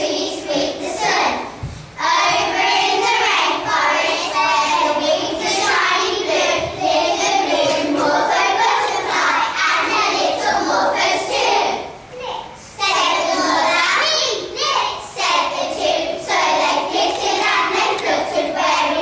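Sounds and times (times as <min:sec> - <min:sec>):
children singing together: 0:00.0 - 0:12.0, 0:12.8 - 0:19.0.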